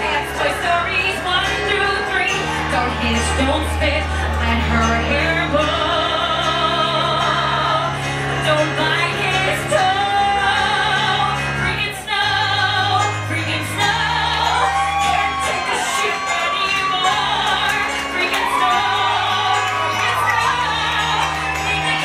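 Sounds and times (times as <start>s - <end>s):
piano accompaniment: 0.0s - 22.0s
woman singing a ballad: 0.0s - 22.0s.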